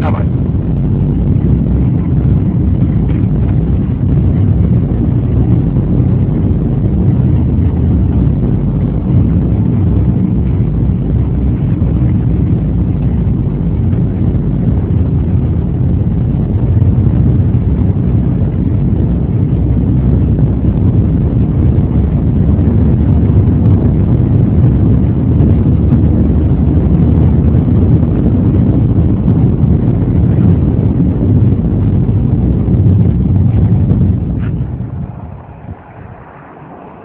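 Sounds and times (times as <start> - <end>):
car engine rumble: 0.0 - 37.0
road noise inside car: 0.0 - 37.0.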